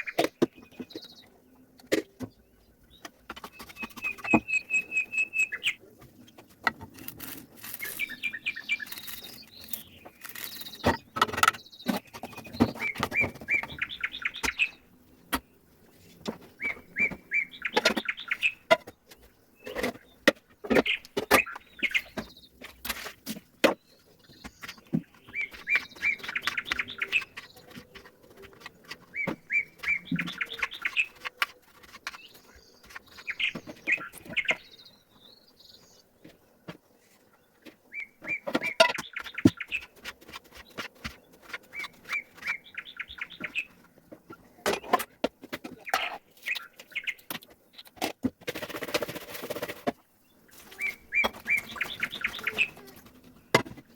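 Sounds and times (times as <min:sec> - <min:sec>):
birds twittering: 0:00.0 - 0:48.0, 0:48.6 - 0:53.9.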